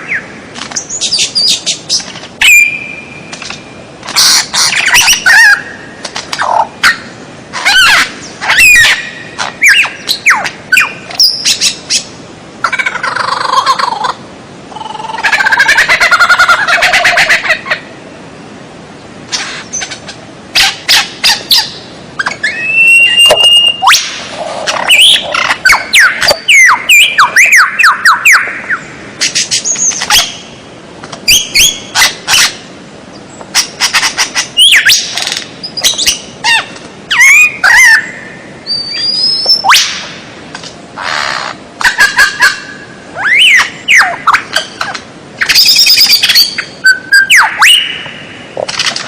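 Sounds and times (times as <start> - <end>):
songbird calls: 0.0 - 18.0, 19.0 - 40.2, 41.0 - 48.7.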